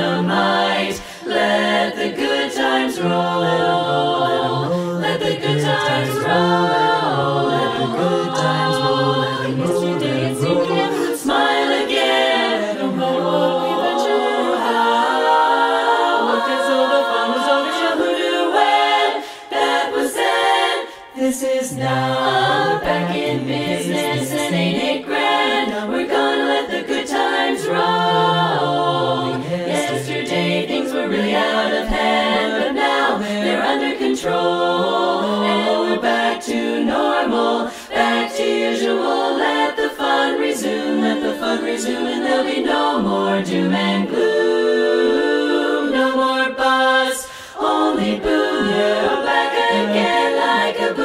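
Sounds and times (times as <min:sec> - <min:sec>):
women's a cappella chorus singing: 0:00.0 - 0:51.0.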